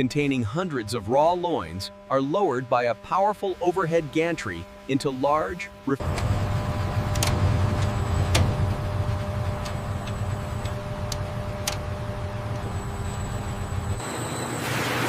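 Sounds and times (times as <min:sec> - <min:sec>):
industrial machinery humming: 0:00.0 - 0:15.0.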